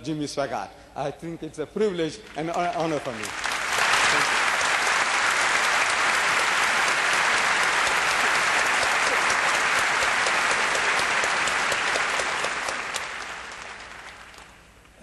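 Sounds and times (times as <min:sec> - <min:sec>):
audience applauding: 0:02.2 - 0:14.8.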